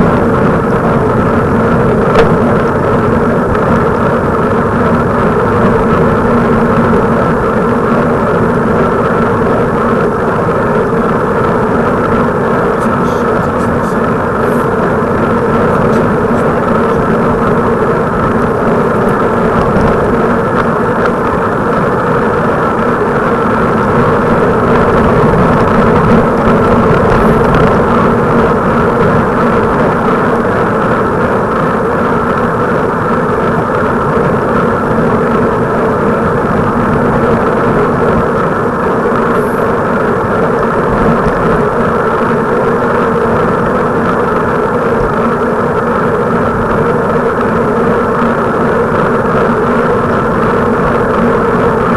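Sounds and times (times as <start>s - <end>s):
constant hum: 0.0s - 51.9s
wind and road rush: 0.0s - 51.9s.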